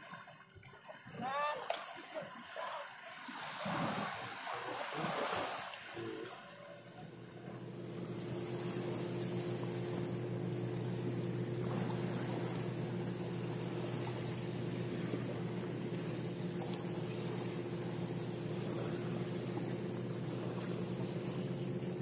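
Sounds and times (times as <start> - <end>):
motorboat engine humming: 0.0 - 22.0.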